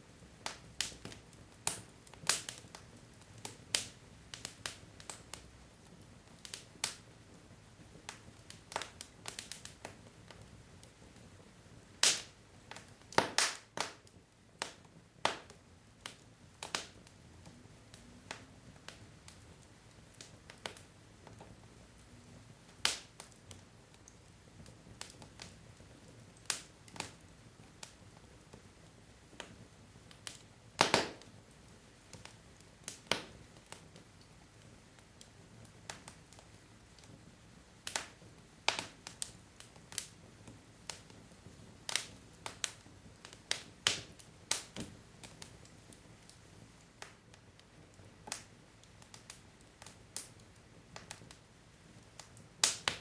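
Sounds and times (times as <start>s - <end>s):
faint steady hiss: 0.0s - 53.0s
wood fire crackling: 0.0s - 53.0s.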